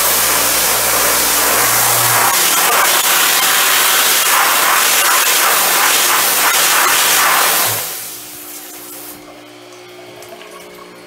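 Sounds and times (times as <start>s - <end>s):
pressure washer jet spraying: 0.0s - 9.2s.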